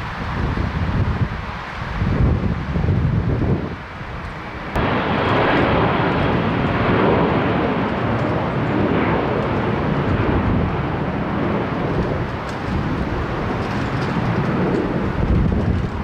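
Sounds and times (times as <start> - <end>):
jet engine rushing: 0.0 - 16.0
wind rumble on microphone: 0.0 - 16.0.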